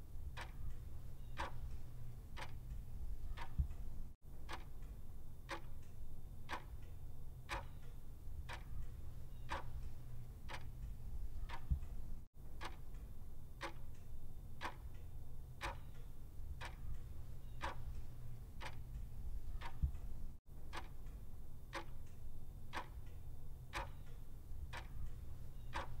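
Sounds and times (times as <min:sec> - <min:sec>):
low steady hum: 0:00.0 - 0:26.0
clock ticking: 0:00.3 - 0:05.9, 0:06.5 - 0:06.9, 0:07.5 - 0:14.0, 0:14.6 - 0:15.0, 0:15.6 - 0:26.0.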